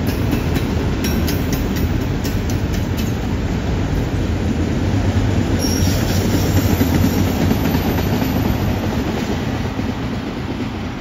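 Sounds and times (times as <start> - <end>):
freight train rolling past: 0.0 - 11.0
steel wheels clattering on rails: 0.0 - 11.0.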